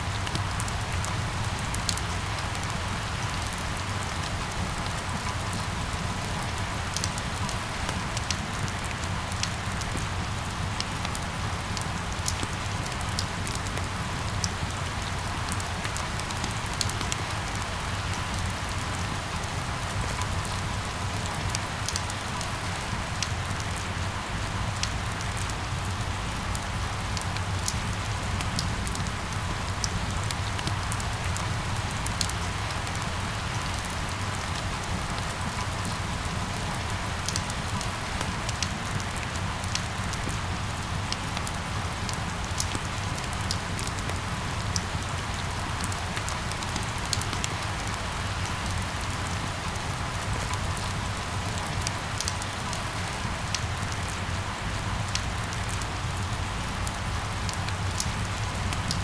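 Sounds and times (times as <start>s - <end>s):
rain drops ticking: 0.0s - 59.0s
rain pattering: 0.0s - 59.0s.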